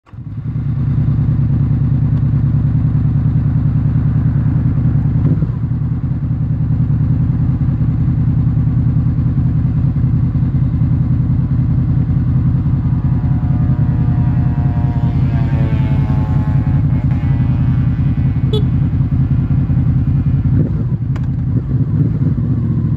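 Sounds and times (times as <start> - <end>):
motorcycle engine idling: 0.1 - 22.9.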